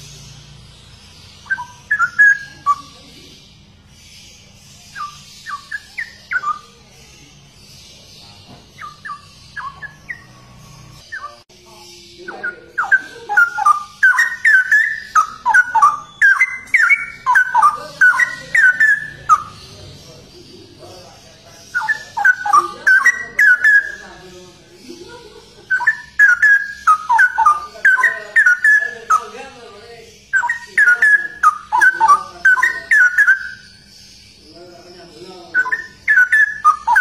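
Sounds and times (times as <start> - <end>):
bird singing bubbling phrases: 0.0 - 37.0.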